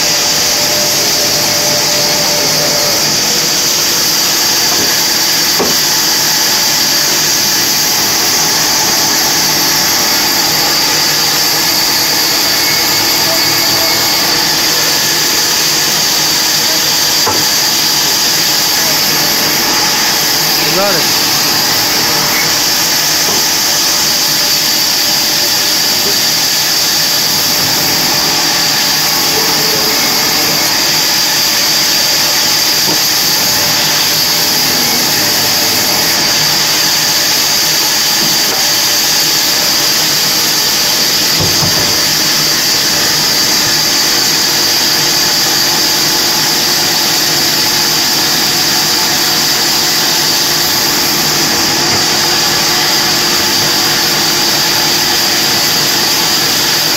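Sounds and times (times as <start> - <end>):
band saw cutting logs: 0.0 - 56.9.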